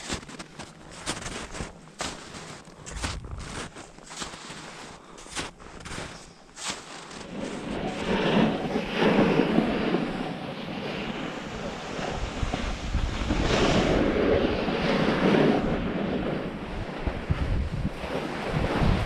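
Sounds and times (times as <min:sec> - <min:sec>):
snowboard scraping over snow: 0:00.0 - 0:19.0
wind buffeting microphone: 0:00.0 - 0:19.0.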